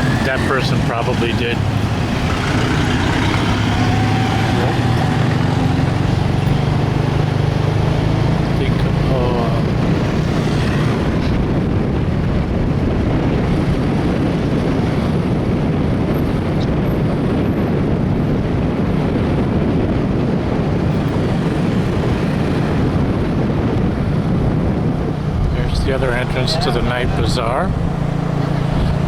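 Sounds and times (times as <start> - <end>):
motorbike engine running: 0.0 - 29.0
road noise: 0.0 - 29.0
wind buffeting microphone: 0.0 - 29.0.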